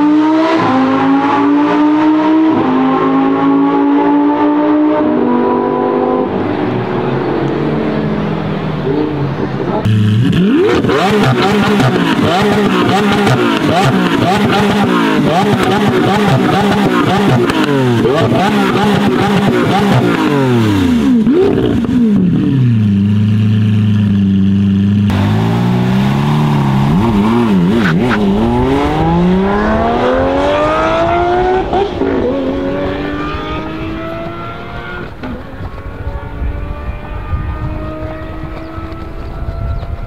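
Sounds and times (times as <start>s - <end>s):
car accelerating hard with upshifts: 0.0s - 40.0s
car engine revving: 0.0s - 40.0s.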